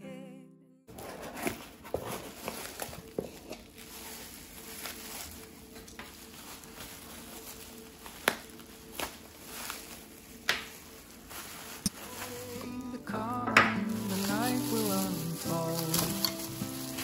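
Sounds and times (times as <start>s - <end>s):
bubble wrap crinkling: 0.9s - 17.0s
small crackles: 1.0s - 13.2s, 13.8s - 17.0s.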